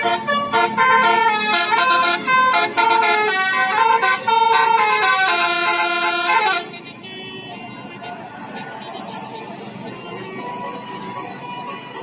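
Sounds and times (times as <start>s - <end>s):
multi-tone bus horn melody: 0.0s - 12.0s.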